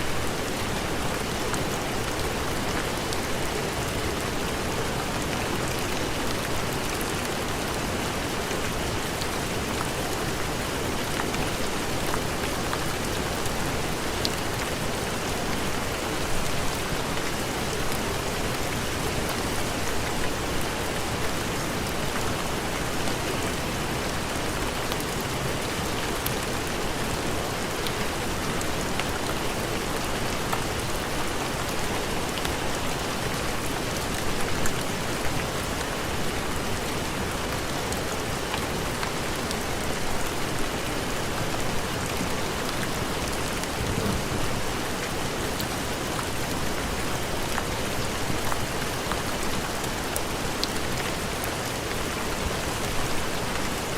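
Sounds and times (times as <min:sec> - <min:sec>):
heavy rain pattering: 0:00.1 - 0:53.9.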